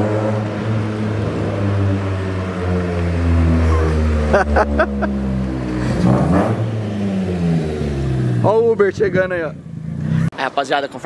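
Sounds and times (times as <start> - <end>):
car engine droning at low revs: 0.0 - 10.3.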